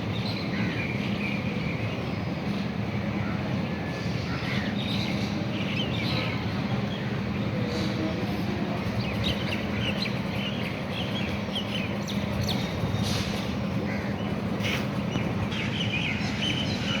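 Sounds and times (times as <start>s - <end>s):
constant background noise: 0.0s - 17.0s.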